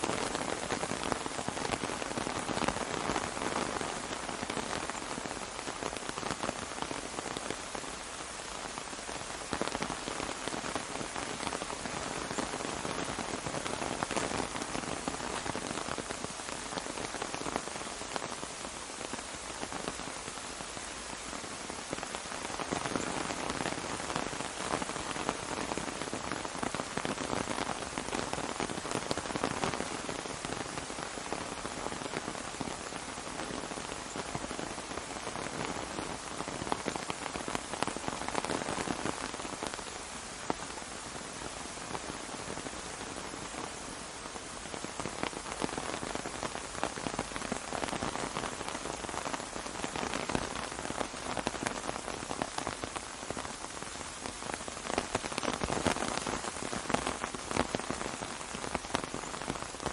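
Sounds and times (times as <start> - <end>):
rain pattering on an umbrella: 0.0 - 59.9.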